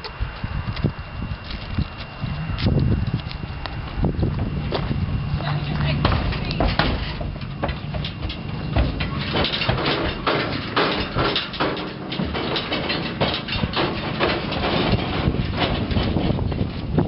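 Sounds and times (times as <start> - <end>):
hooves on metal trailer floor: 0.0 - 17.0.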